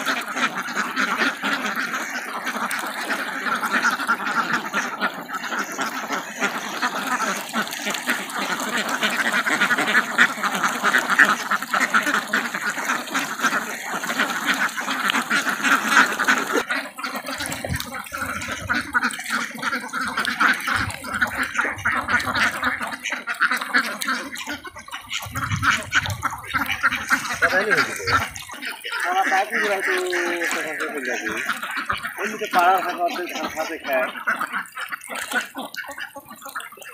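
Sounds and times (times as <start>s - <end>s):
flock of ducks quacking: 0.0s - 36.9s.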